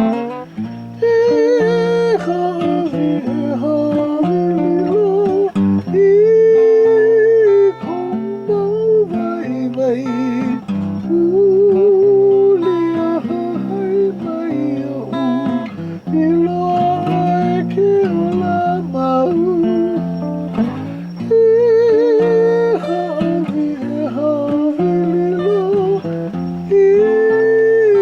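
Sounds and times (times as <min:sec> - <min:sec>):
person singing long notes: 0:00.0 - 0:28.0
strummed acoustic guitar: 0:00.0 - 0:28.0.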